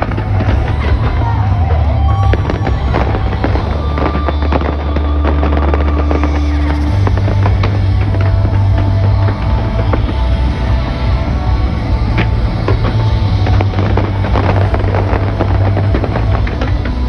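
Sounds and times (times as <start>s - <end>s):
fireworks bursting and crackling: 0.0s - 17.0s
loud music with heavy bass: 0.0s - 17.0s.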